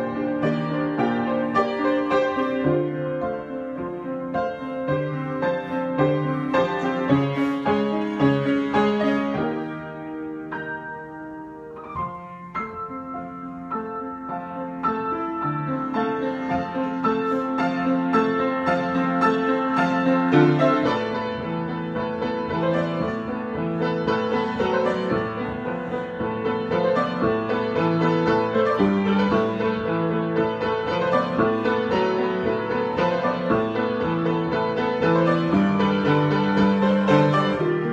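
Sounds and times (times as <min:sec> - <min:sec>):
solo piano: 0:00.0 - 0:37.9.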